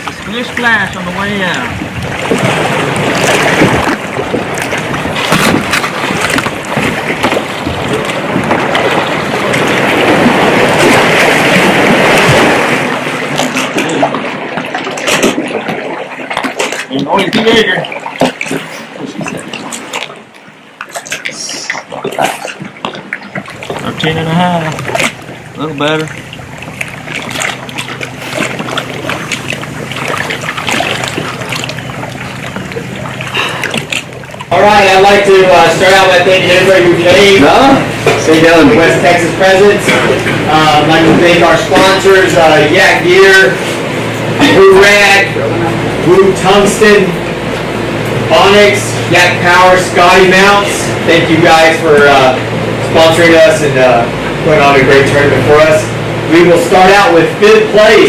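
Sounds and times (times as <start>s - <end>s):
water splashing around kayak: 0.0s - 58.0s.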